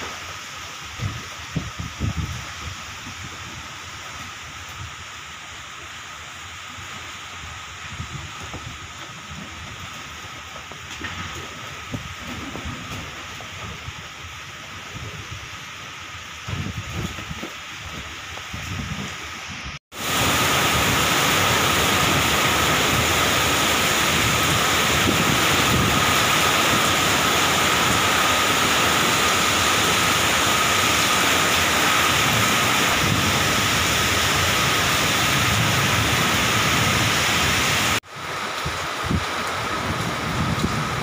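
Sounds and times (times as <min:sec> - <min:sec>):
heavy rain on a ship's deck: 0:00.0 - 0:41.0.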